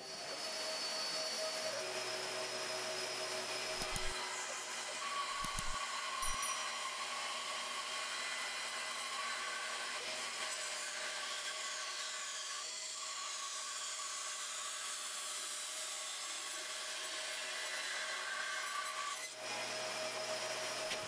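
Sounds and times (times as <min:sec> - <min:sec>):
bandsaw cutting wood: 0:00.0 - 0:21.0.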